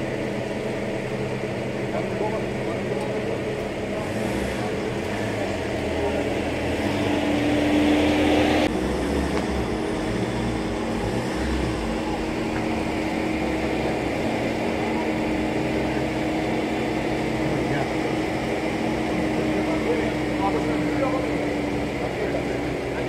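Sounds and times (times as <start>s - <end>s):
engine humming: 0.0s - 23.0s
street background noise: 0.0s - 23.0s.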